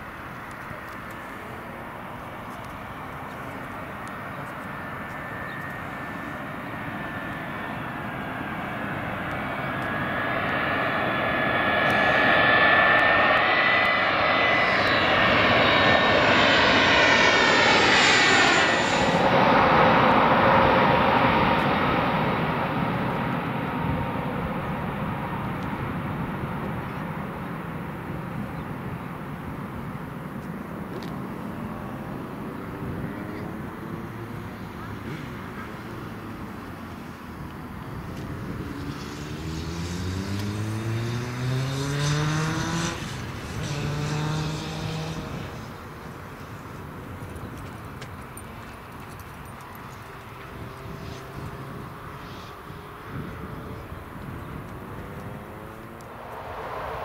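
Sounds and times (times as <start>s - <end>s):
jet airliner engines passing overhead: 0.0s - 57.0s.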